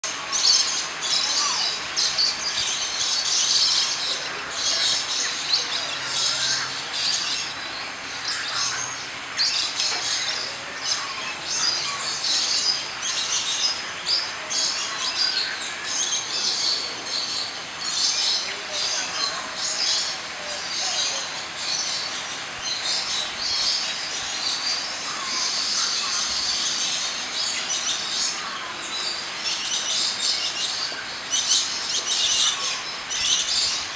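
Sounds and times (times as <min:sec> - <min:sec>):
many birds chirping: 0:00.0 - 0:33.9.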